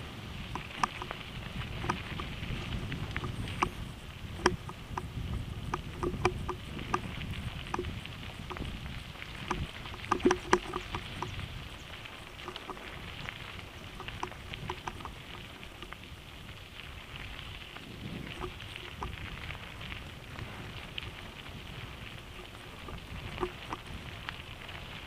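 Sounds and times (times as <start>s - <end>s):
bike rattling and clicking: 0.0s - 25.0s
wind rumble on microphone: 0.0s - 25.0s
tyres crunching over gravel: 0.2s - 25.0s.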